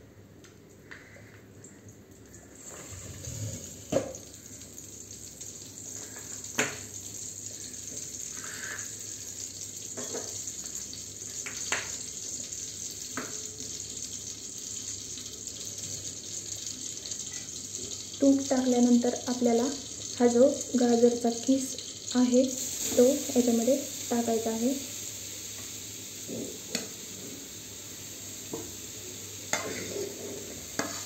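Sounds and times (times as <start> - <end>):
ghee sizzling in a metal pan: 2.4 - 31.0.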